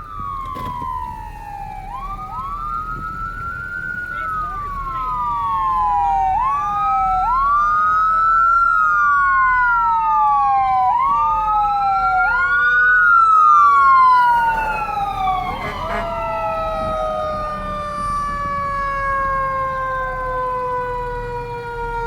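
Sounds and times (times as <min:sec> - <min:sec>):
emergency vehicle sirens wailing: 0:00.0 - 0:22.0.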